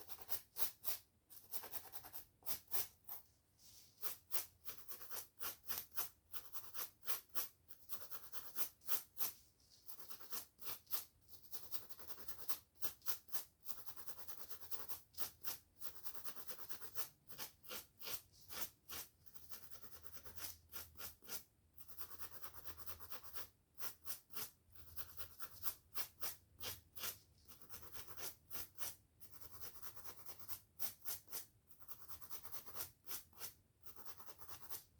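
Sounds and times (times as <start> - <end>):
hairbrush scratching scalp: 0.0 - 34.9.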